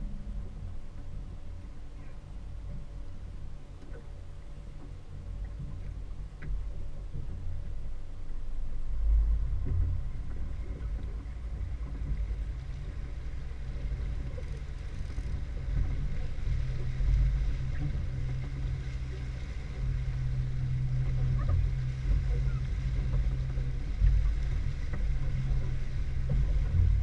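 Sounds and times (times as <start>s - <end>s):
outboard motor humming: 0.0s - 27.0s
water wash behind boat: 0.0s - 27.0s.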